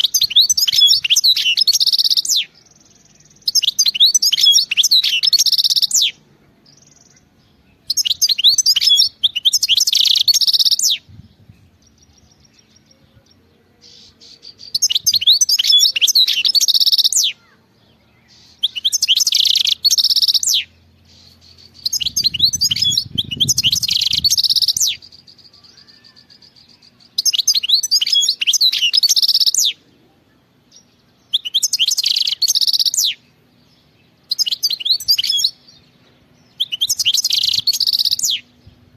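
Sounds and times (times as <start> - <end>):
goldfinch singing: 0.0 - 38.9.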